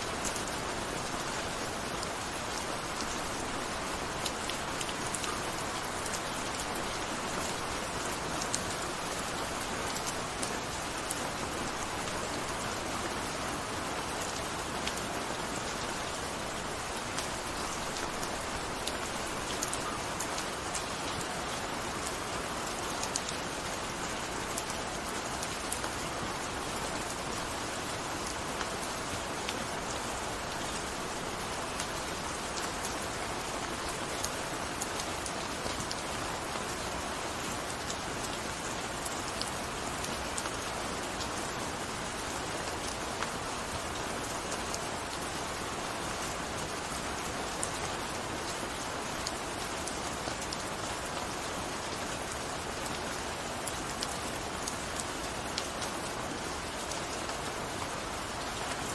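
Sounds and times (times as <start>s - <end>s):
gentle rain falling: 0.0s - 58.9s.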